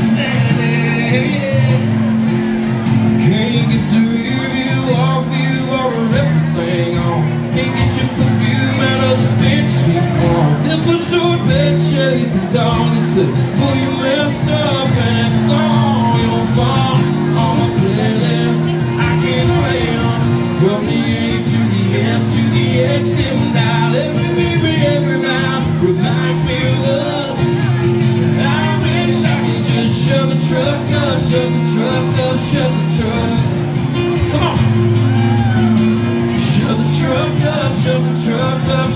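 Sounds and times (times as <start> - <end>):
acoustic guitars strumming: 0.0 - 38.9
man singing: 0.0 - 38.9.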